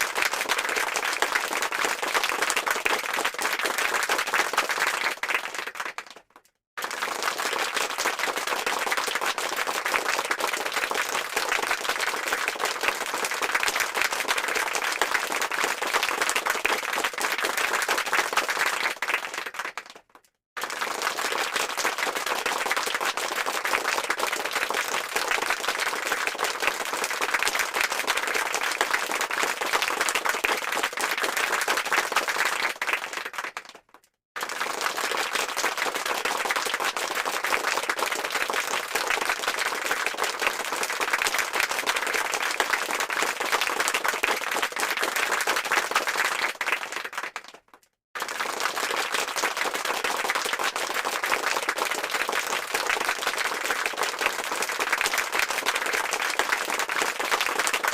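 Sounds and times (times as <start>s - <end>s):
crowd applause: 0.0s - 6.2s, 6.8s - 20.0s, 20.6s - 33.8s, 34.4s - 57.9s.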